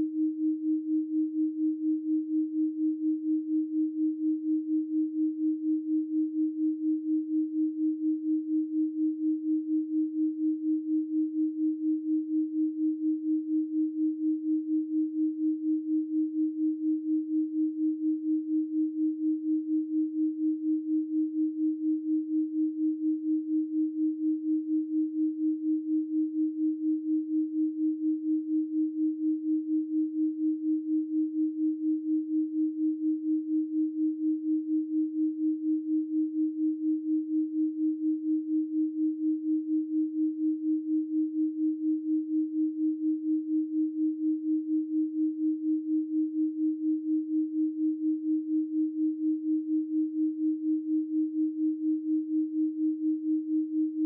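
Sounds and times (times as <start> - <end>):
pulsing sine tone: 0.0 - 54.0.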